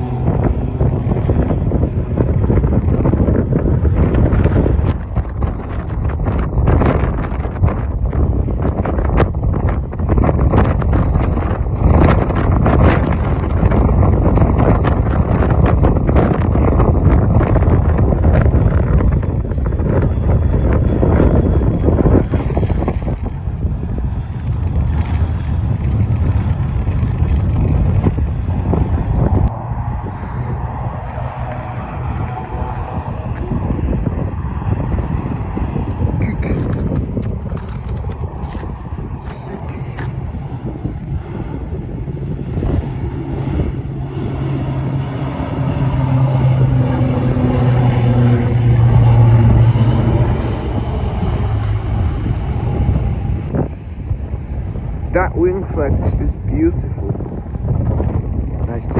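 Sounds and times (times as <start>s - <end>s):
jet engines at takeoff: 0.0s - 58.9s
wind buffeting microphone: 0.0s - 58.9s.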